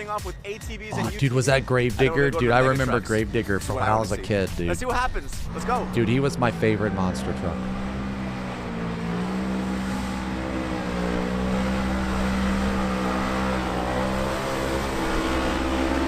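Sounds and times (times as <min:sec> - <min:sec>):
off-road vehicle engine running hard: 0:01.9 - 0:16.0.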